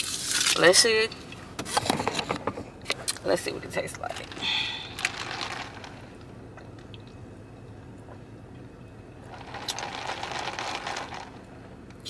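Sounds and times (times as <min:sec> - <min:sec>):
car interior hum: 0:00.6 - 0:12.0.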